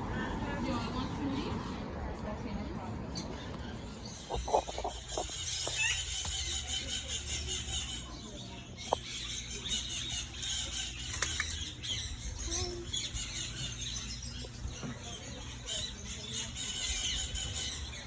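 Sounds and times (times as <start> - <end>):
birds squawking and chirping: 2.5 - 18.0.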